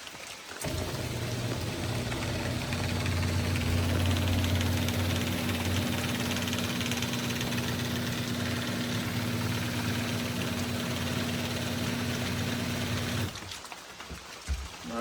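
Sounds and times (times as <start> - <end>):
garage door opener motor humming: 0.6 - 13.4.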